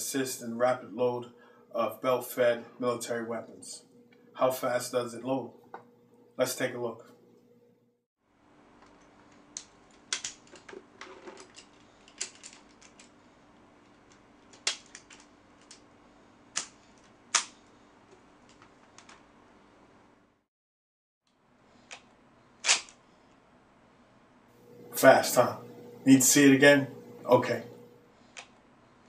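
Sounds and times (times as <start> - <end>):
faint steady hum: 0.0 - 20.4, 21.3 - 29.0.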